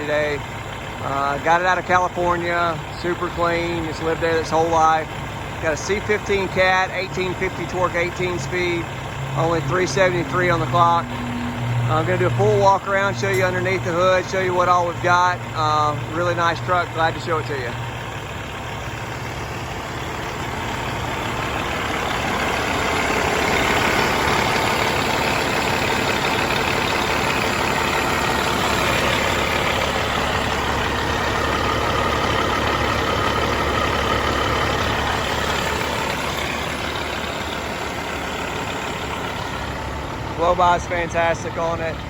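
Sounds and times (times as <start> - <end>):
diesel truck engine idling: 0.0 - 42.0.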